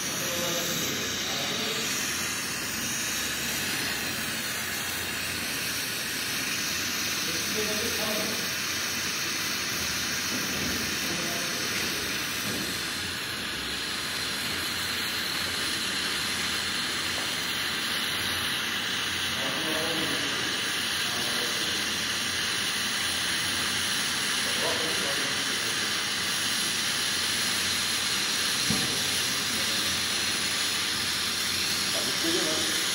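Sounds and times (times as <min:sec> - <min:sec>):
welding torch flame hissing: 0:00.0 - 0:32.9.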